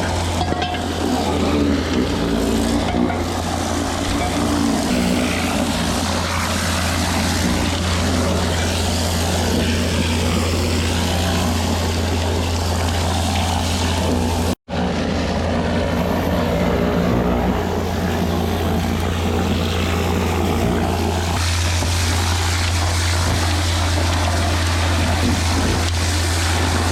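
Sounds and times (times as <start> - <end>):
machine engine running: 0.0 - 26.9.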